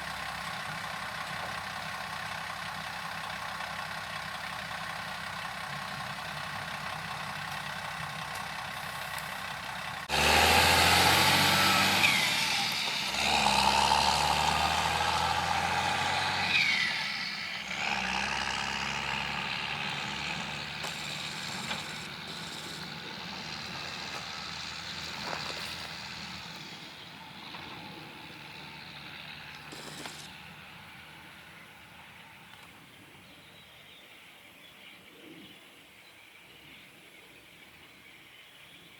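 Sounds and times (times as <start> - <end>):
diesel farm machinery engine: 0.0 - 33.6.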